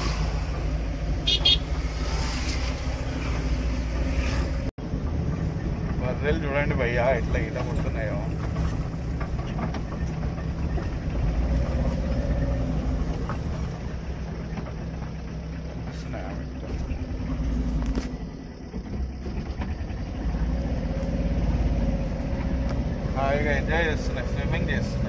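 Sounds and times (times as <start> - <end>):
low engine hum: 0.0 - 25.0
road noise: 0.0 - 25.0.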